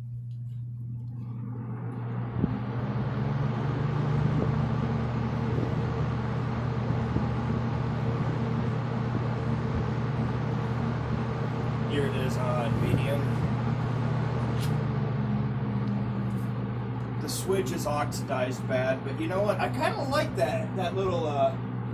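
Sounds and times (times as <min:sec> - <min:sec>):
box fan motor hum and air rush: 0:00.0 - 0:21.9.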